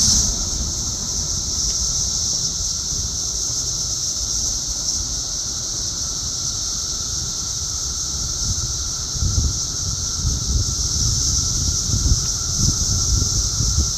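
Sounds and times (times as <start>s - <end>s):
cicadas whirring chorus: 0.0s - 13.9s.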